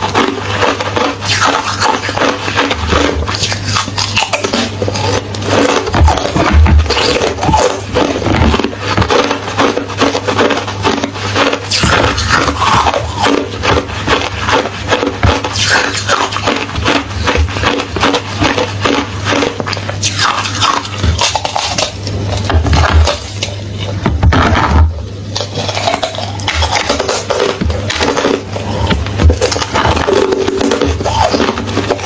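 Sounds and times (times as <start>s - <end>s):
ice being chewed: 0.0s - 32.0s.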